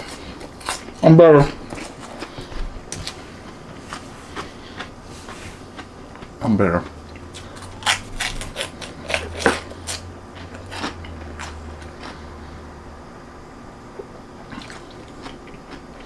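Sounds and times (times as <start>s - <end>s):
crunching pork rinds: 0.0s - 12.5s, 14.4s - 16.0s.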